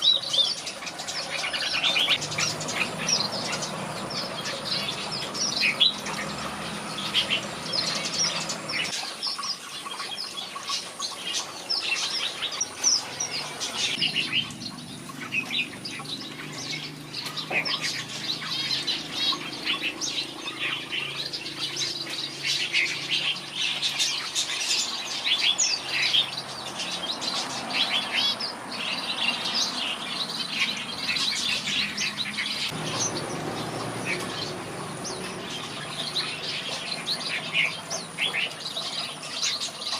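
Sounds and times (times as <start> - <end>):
bulbuls singing and chirping: 0.0 - 39.9.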